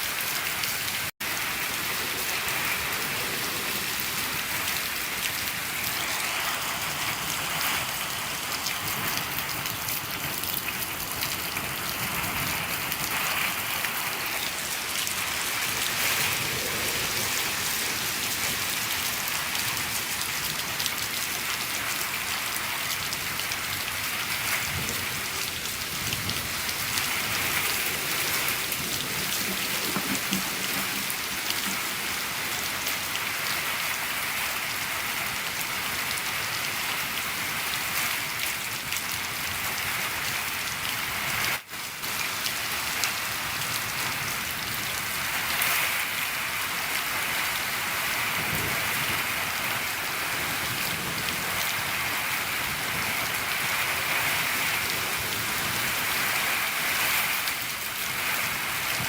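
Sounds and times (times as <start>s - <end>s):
rain falling on a shed: 0.0s - 59.0s.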